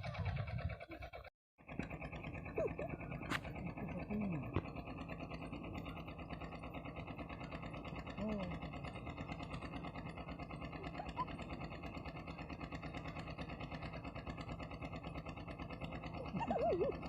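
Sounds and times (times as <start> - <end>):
pulsing engine-like hum: 0.0 - 17.0.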